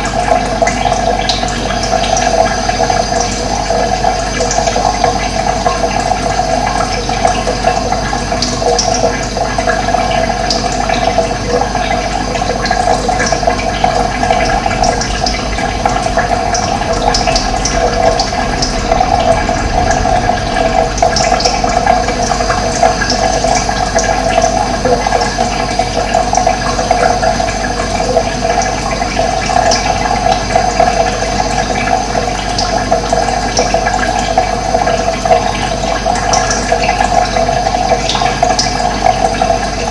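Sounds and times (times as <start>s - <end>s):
running water flowing: 0.0s - 39.9s.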